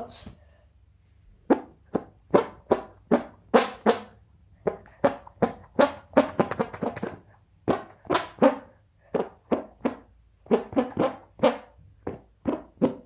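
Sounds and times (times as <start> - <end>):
armpit farts: 1.5 - 13.0.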